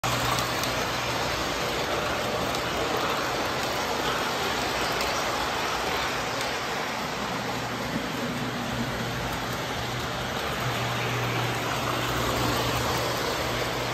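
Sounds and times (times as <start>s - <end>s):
model train wheels rattling on track: 0.0s - 13.9s.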